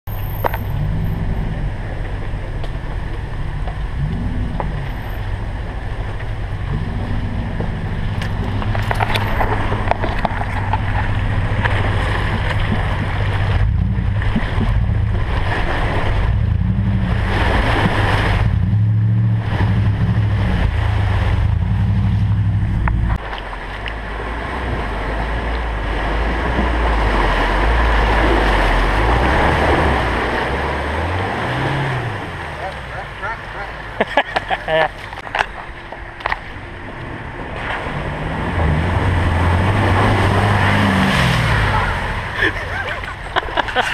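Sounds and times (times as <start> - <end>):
vehicle engine revving: 0.1 - 43.9
water rushing: 0.1 - 43.9
water splashing around wheels: 0.1 - 43.9.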